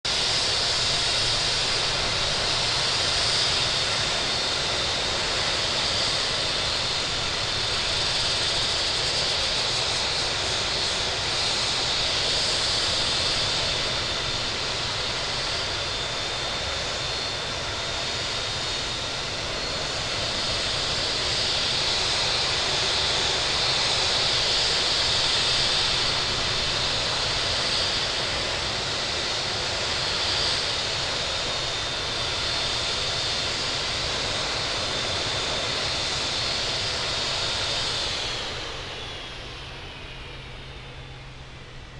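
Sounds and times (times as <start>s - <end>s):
jet engine and airflow noise: 0.0s - 41.9s.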